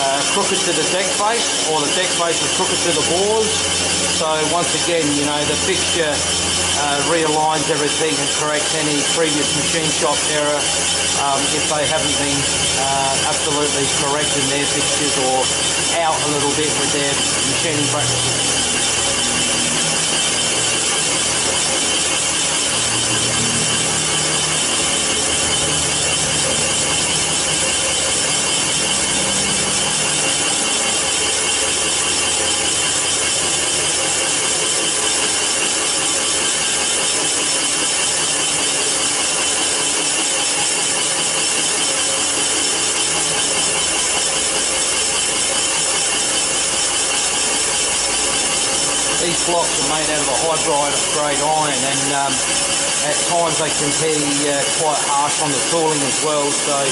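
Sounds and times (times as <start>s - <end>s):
boring tool cutting metal: 0.0s - 56.9s.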